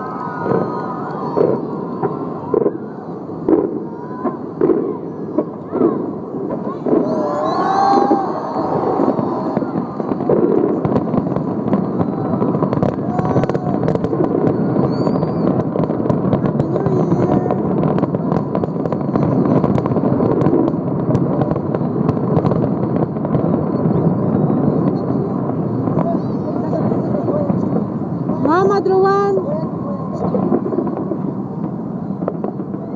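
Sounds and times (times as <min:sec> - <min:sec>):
crowd voices: 0:00.0 - 0:32.9
fireworks crackling and popping: 0:00.0 - 0:32.9.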